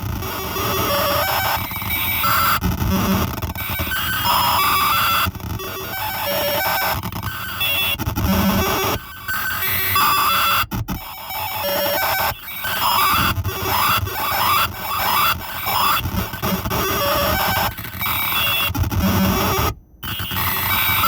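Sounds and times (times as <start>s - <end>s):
harsh glitchy synth noise: 0.0s - 10.6s, 11.2s - 21.0s.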